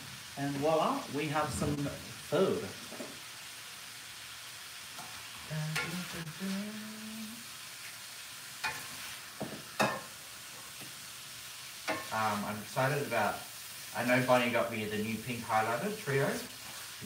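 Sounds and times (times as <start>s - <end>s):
stir-fry sizzling in a pan: 0.0s - 17.0s.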